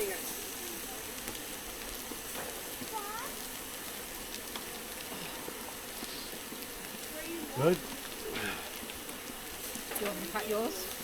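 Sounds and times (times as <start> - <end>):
food sizzling on a hotplate: 0.0 - 11.0.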